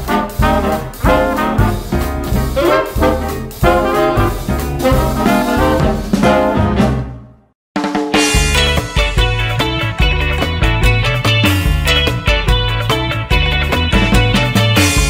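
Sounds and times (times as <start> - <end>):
swing music with brass horns: 0.0 - 15.0.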